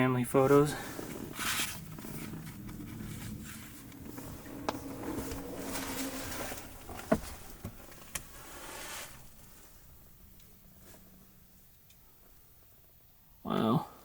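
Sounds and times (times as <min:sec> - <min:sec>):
rustling and shuffling: 0:00.4 - 0:13.0.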